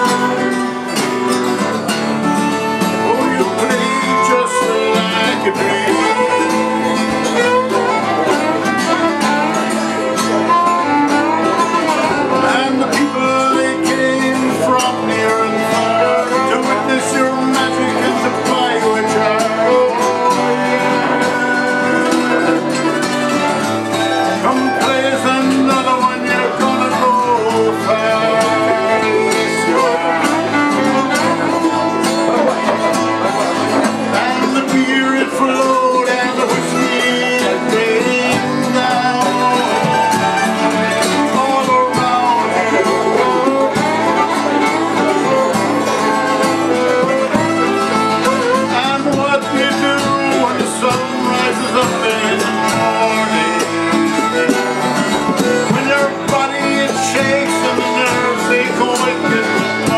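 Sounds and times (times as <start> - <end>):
fiddle melody: 0.0 - 59.9
mandolin: 0.0 - 59.9
strummed acoustic guitar: 0.0 - 59.9.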